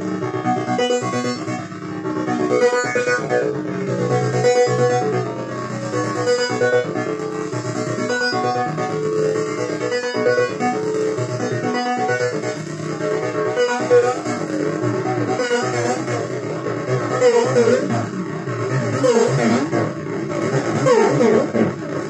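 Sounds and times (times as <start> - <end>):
synthesizer notes with delay: 0.0 - 22.0.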